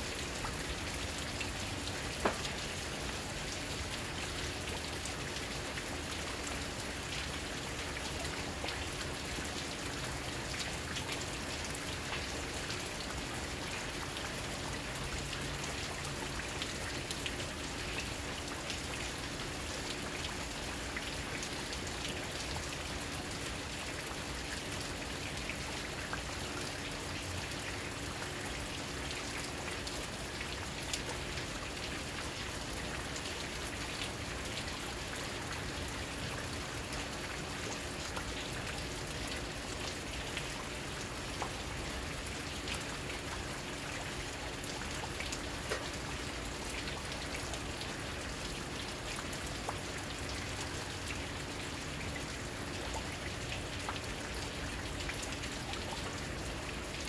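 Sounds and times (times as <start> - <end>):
raindrops ticking on surfaces: 0.0 - 57.0.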